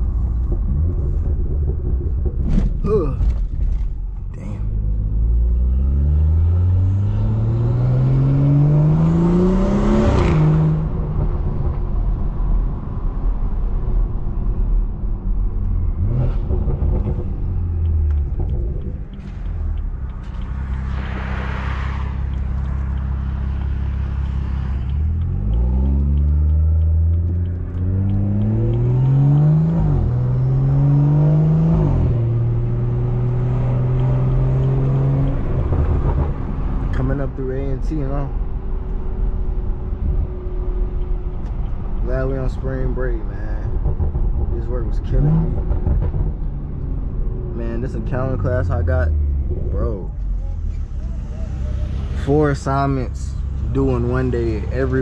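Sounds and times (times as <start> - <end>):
car engine accelerating hard: 4.5 - 12.2, 15.7 - 55.0.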